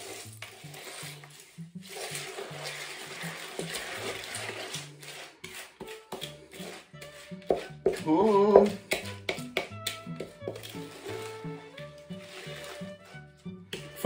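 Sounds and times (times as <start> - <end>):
quiet background music: 0.0 - 14.0
wooden spoon scraping a bowl: 0.0 - 14.0.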